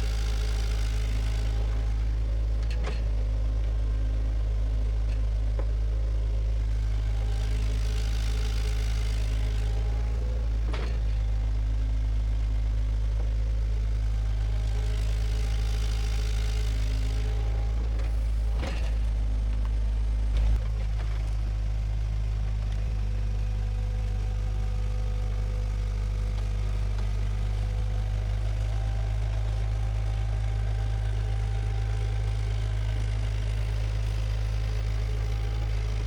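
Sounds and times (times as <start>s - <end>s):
bulldozer diesel engine running: 0.0s - 36.0s.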